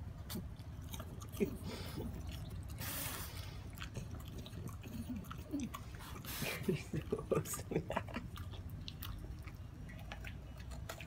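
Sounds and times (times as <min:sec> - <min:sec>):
dog chewing and licking: 0:00.0 - 0:11.0.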